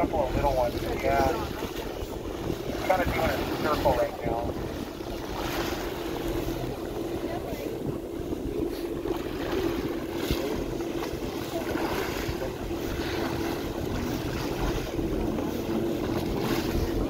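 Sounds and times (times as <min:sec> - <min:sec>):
boat engine running: 0:00.0 - 0:17.0
water rushing along hull: 0:00.0 - 0:17.0
wind buffeting microphone: 0:00.0 - 0:17.0.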